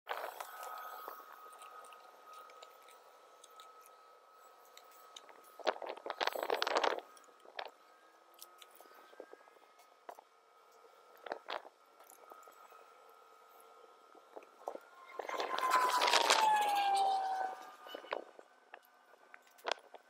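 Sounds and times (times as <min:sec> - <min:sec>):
faint high whine: 0:00.1 - 0:20.0.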